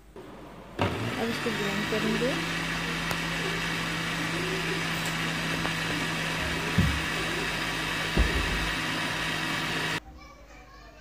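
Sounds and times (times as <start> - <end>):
blender motor running: 0.8 - 10.0.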